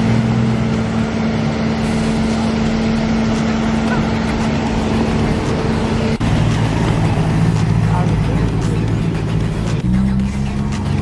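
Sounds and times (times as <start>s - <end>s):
car engine running steadily: 0.0s - 11.0s
lower engine note: 0.0s - 11.0s.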